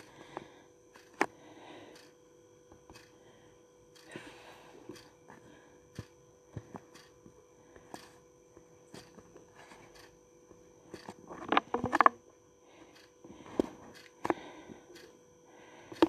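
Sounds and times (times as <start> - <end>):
faint electrical whine: 0.0 - 16.0.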